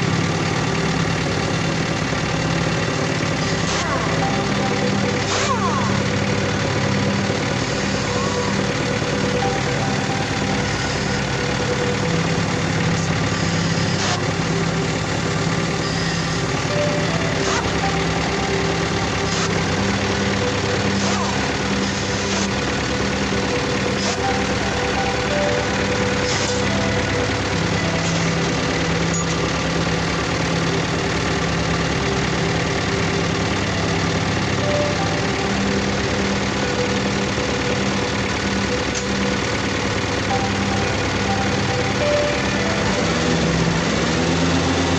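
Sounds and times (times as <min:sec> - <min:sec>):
engine idling with misfire: 0:00.0 - 0:44.9.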